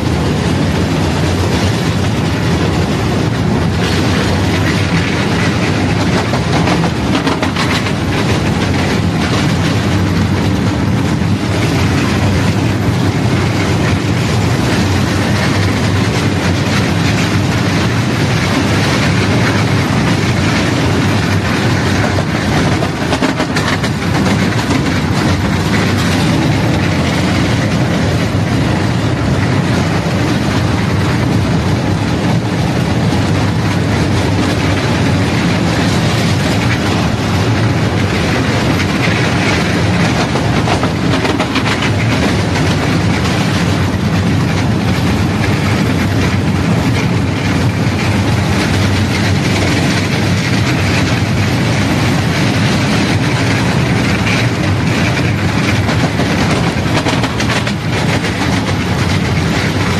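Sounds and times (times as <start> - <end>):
miniature train wheels rattling on rails: 0.0 - 59.9.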